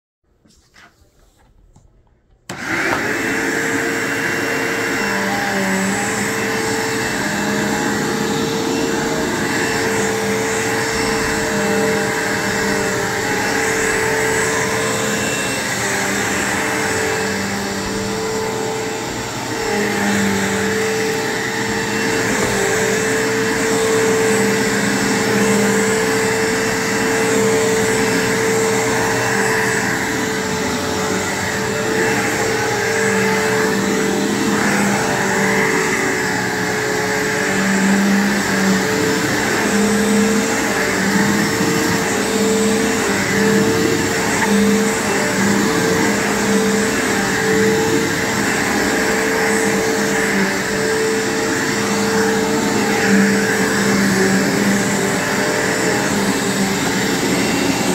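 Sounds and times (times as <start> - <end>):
vacuum cleaner running on carpet: 2.5 - 57.9.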